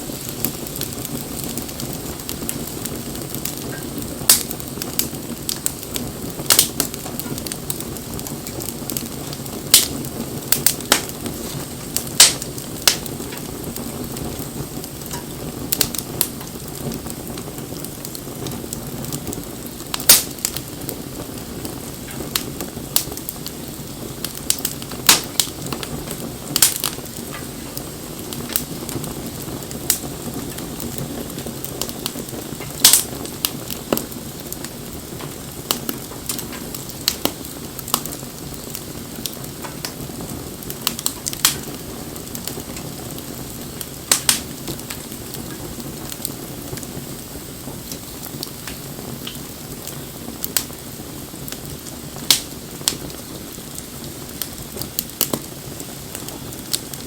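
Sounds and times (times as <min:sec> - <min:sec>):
fire crackles and pops: 0:00.0 - 0:57.0
hiss of flames: 0:00.0 - 0:57.0.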